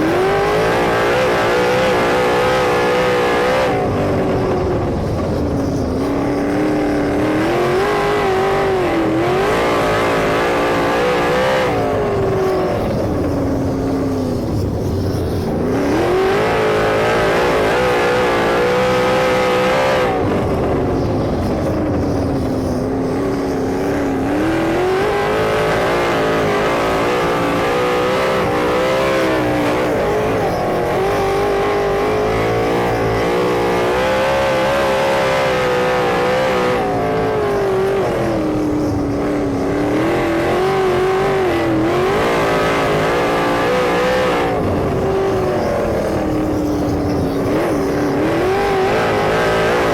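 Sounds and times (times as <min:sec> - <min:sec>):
race car engine running hard: 0:00.0 - 0:49.9.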